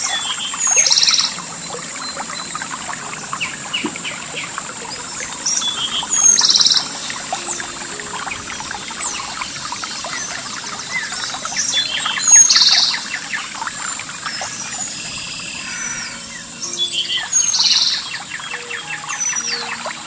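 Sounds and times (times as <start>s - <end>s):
bird trill: 0.0s - 20.0s
birds calling: 0.0s - 20.0s
thin high tone: 0.0s - 20.0s
water trickling over rocks: 0.0s - 20.0s.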